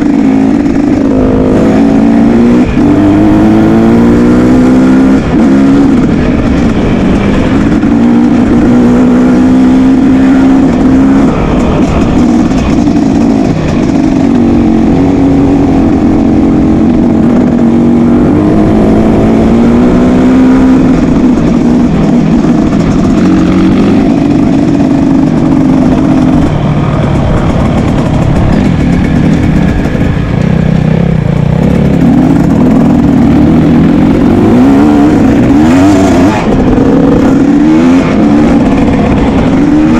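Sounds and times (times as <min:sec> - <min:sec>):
motocross motorcycle engines revving: 0:00.0 - 0:39.9.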